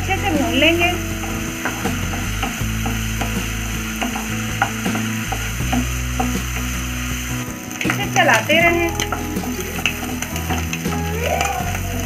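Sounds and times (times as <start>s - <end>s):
low hum: 0.0s - 12.0s
prawns frying in oil: 0.0s - 12.0s.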